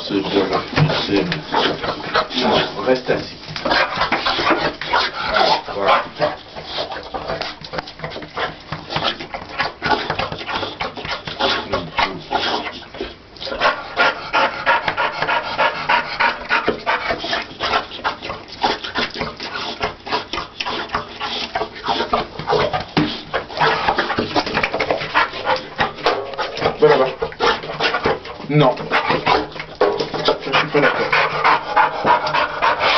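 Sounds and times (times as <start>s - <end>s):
dog panting hard: 0.1s - 32.9s.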